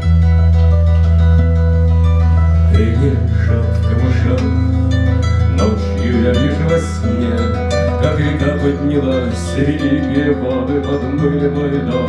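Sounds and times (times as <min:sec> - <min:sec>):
fingerstyle acoustic guitar: 0:00.0 - 0:12.0.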